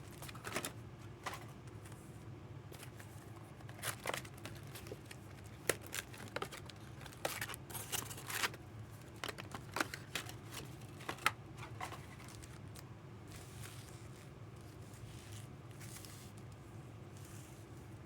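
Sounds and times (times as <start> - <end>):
card and wrapper rustling: 0.0 - 2.0, 2.7 - 16.5.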